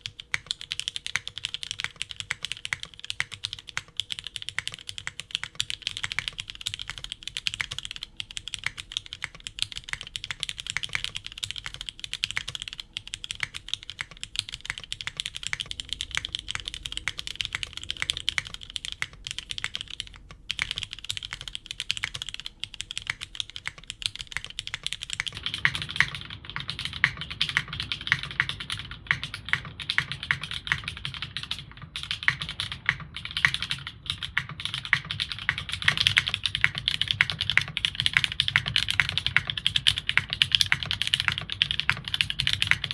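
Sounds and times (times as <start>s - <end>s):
mechanical keyboard typing: 0.0s - 42.9s.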